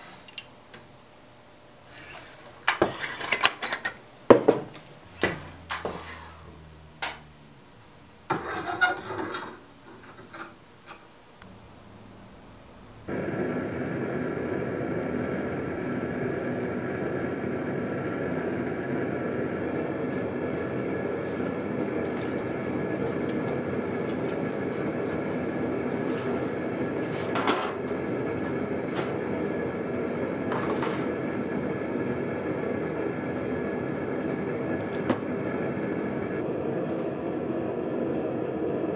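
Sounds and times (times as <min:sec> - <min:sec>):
forge burner roaring: 0:00.0 - 0:38.9.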